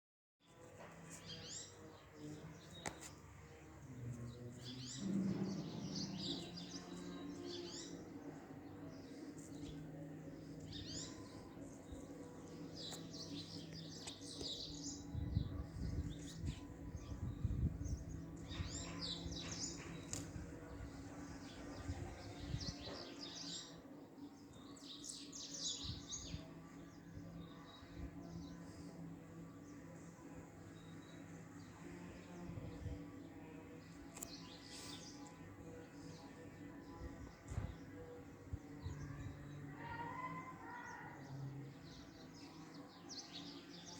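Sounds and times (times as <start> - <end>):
small birds chirping: 0.4 - 43.9.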